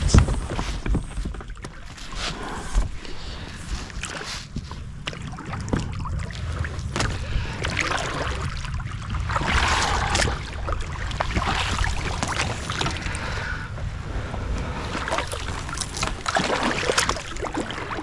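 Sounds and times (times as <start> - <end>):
water splashing around boat: 0.0 - 18.0
low rumble: 2.3 - 18.0.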